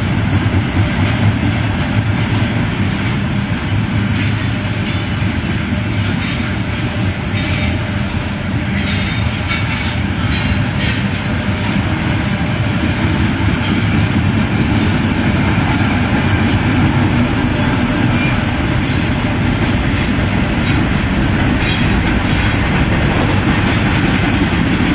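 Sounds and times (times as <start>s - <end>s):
steel wheels rumbling on rail: 0.0s - 24.9s.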